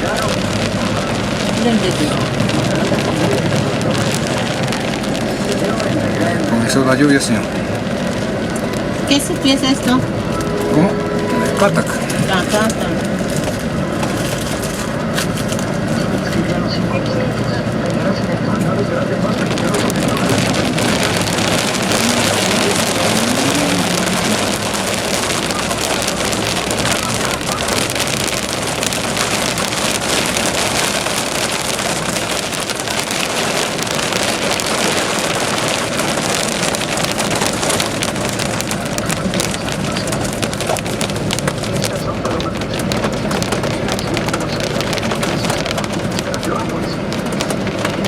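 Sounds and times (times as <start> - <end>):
bus engine and tyres rumbling: 0.0 - 48.0
rain pattering on a bus: 0.0 - 48.0.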